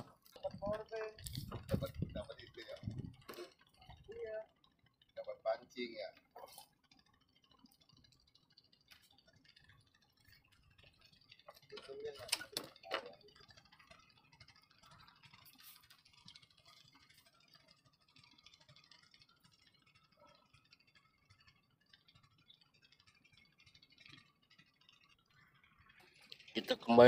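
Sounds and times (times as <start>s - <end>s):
faint ticks: 0.0s - 27.0s.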